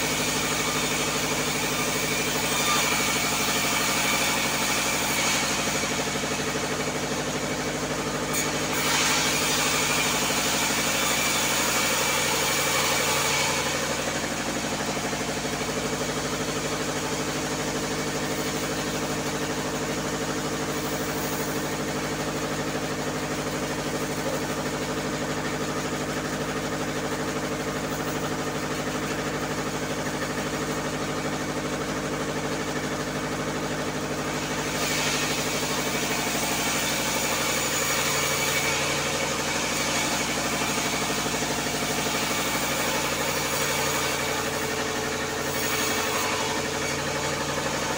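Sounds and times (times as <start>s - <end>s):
band saw cutting wood: 0.0s - 47.9s.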